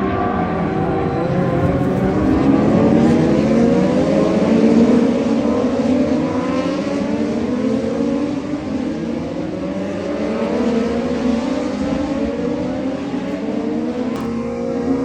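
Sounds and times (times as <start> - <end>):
racing motorcycles passing: 0.3 - 15.0.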